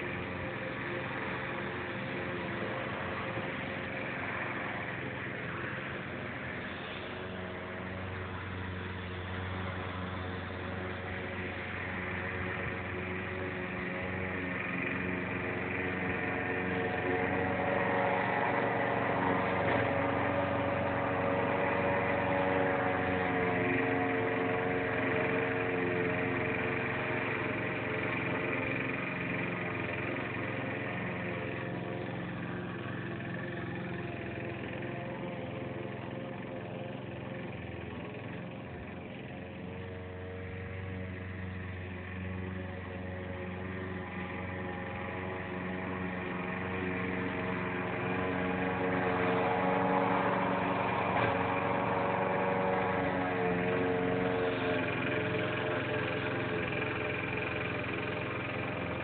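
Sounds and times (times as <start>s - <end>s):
lawn mower running: 0.0s - 59.0s.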